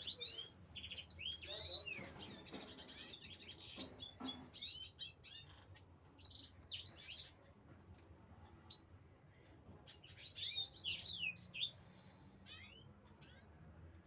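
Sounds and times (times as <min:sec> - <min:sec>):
small birds chirping: 0:00.0 - 0:07.7, 0:08.6 - 0:13.6.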